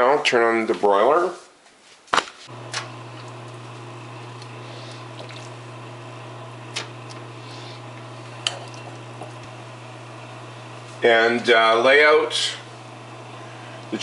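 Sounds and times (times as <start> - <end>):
oven electrical hum: 2.4 - 14.0.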